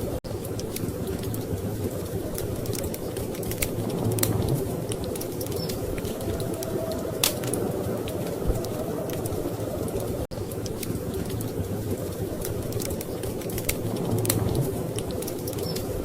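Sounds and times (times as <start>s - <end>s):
storm wind rumble: 0.0s - 16.0s
wood fire crackling and popping: 0.0s - 16.0s.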